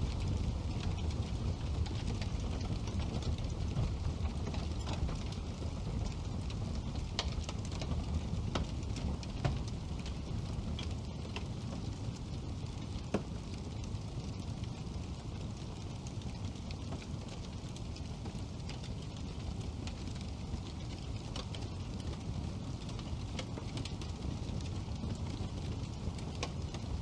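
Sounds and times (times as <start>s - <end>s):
fire crackling and popping: 0.0s - 27.0s
fire rumbling: 0.0s - 27.0s.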